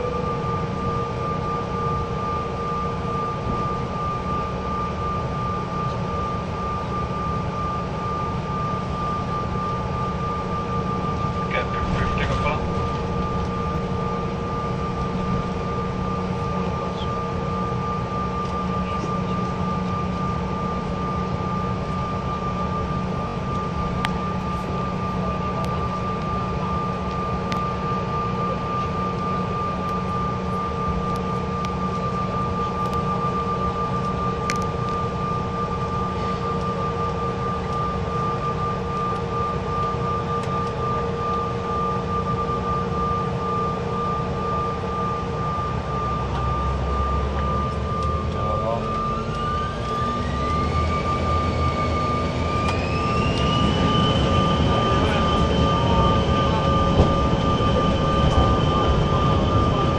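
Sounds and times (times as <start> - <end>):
jet engines idling whine: 0.0 - 59.9.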